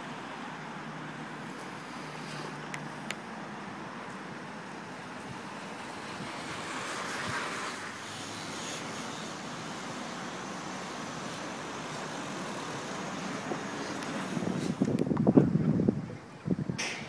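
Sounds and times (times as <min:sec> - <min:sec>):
outdoor rush of noise: 0:00.0 - 0:17.0.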